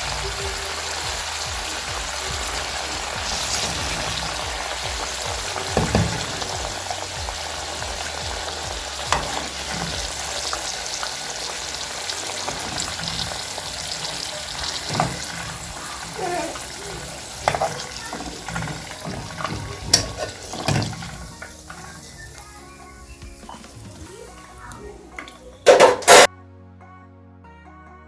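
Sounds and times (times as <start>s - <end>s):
sausages sizzling in pan: 0.0s - 26.3s.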